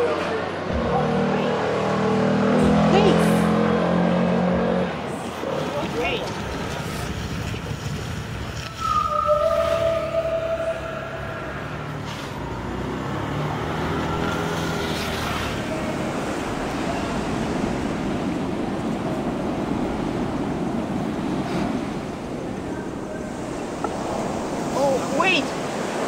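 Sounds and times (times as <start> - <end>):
rush of wind and water: 0.0 - 26.0.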